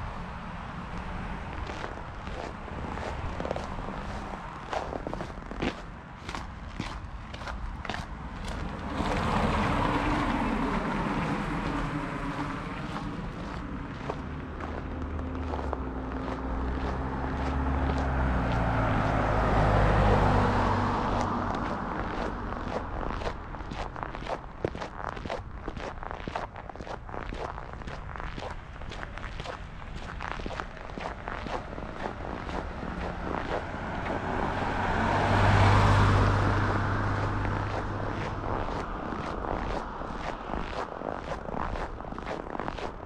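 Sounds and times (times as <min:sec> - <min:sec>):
car passing: 0:00.0 - 0:43.0
vehicle engine and tyre noise: 0:00.0 - 0:43.0
footsteps on snow: 0:00.9 - 0:43.0.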